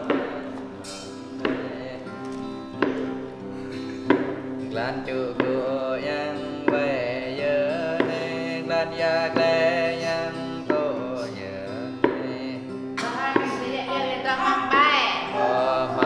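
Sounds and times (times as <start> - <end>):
man singing: 0.0 - 14.3, 15.2 - 16.0
strummed acoustic guitar: 0.0 - 16.0.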